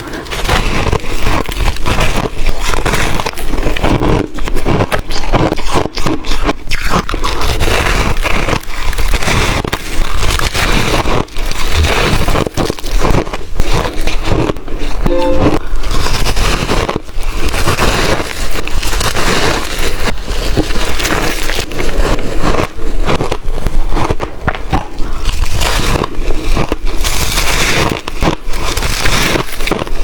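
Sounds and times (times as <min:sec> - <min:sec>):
person crunching ice: 0:00.0 - 0:15.0, 0:17.0 - 0:30.0.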